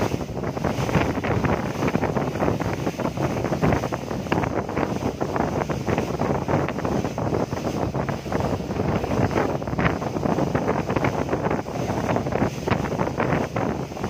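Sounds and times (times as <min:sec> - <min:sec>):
boat running noise: 0:00.0 - 0:14.0
wind buffeting microphone: 0:00.0 - 0:14.0.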